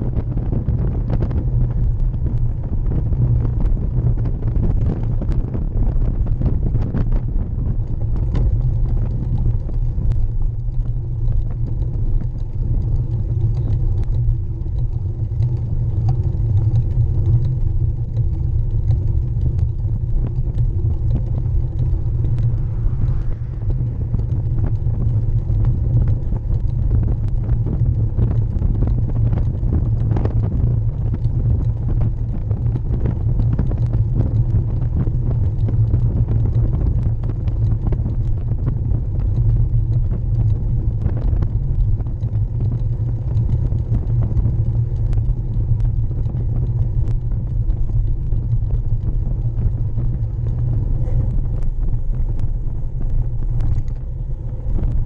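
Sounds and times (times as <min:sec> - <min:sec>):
bike tyre rumbling on tarmac: 0:00.0 - 0:55.0
small knocks and rattles: 0:07.8 - 0:55.0.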